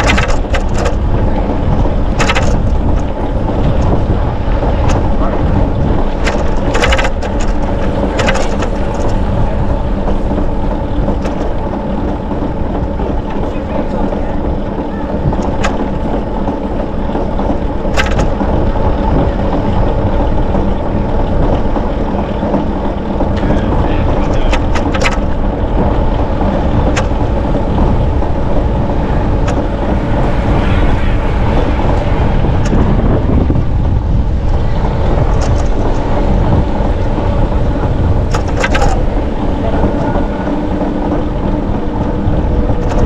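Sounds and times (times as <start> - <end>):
bicycle clicks and knocks: 0.0 - 31.0, 31.8 - 43.0
wind rumbling on microphone: 0.0 - 43.0.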